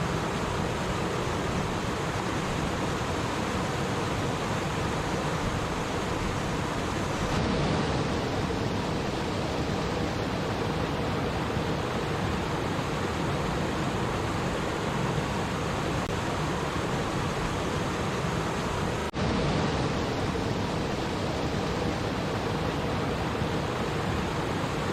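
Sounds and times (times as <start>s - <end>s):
stream rushing and babbling: 0.0s - 24.9s.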